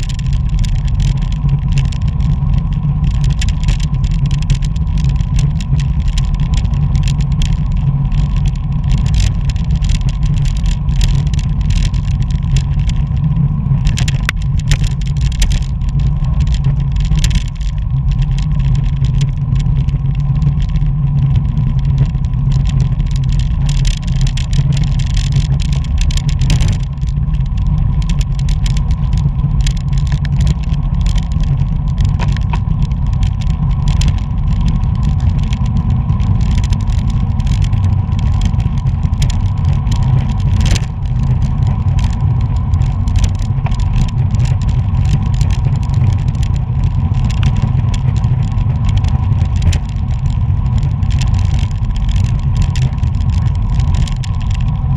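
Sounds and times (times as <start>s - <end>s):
bike clicks and rattles: 0.0s - 54.9s
faint steady whine: 0.0s - 54.9s
wind rumbling on microphone: 0.0s - 54.9s.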